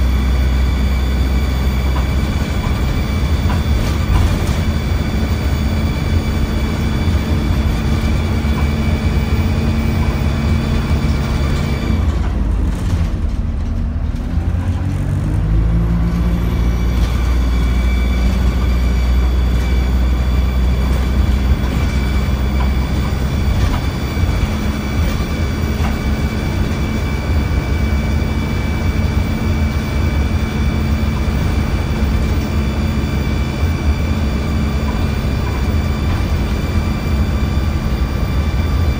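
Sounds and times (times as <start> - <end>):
bus engine whine and rumble: 0.0 - 38.9.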